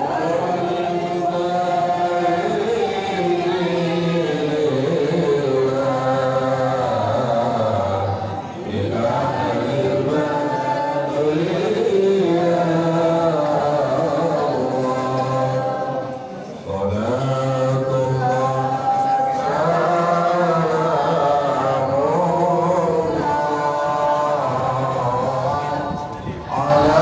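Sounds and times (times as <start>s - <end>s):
group chanting devotional song: 0.0s - 27.0s.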